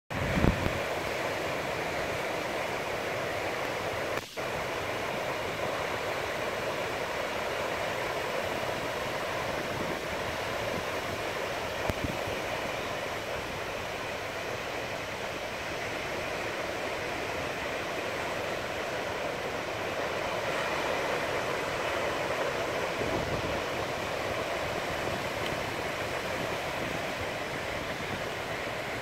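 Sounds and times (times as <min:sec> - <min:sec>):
waves breaking on a beach: 0:00.1 - 0:29.0.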